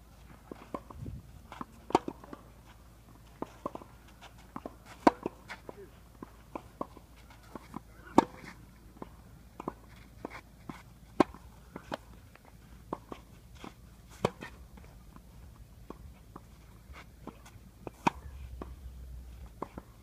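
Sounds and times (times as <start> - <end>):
tennis ball bouncing: 0.5 - 0.9, 1.5 - 2.6, 3.2 - 20.0
tennis ball hitting racquet: 0.5 - 0.9, 1.5 - 14.9, 15.8 - 20.0.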